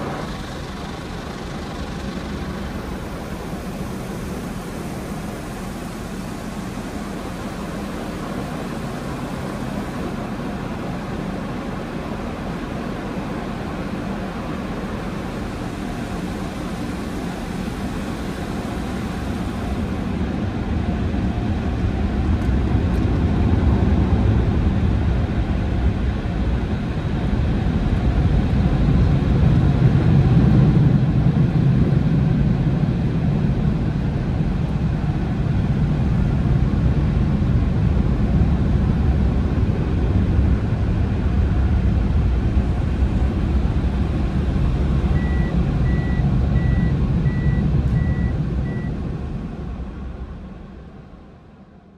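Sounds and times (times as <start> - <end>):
car wash machinery roaring: 0.0 - 51.9.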